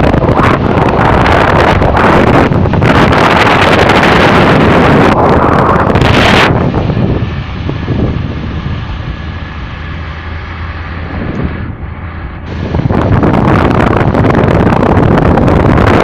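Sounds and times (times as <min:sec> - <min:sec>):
vehicle road and engine rumble: 0:00.0 - 0:16.0
wind gusting on microphone: 0:00.0 - 0:16.0.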